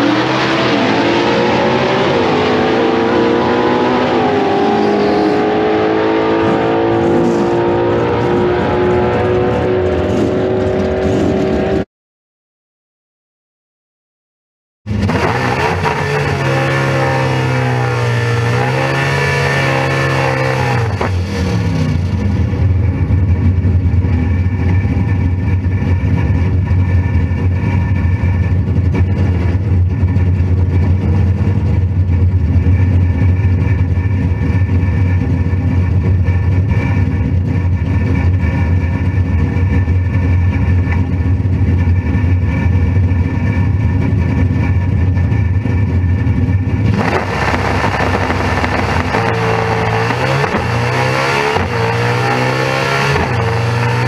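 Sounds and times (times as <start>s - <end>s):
race car engine revving: 0.0s - 11.8s, 14.9s - 22.4s, 27.1s - 54.0s.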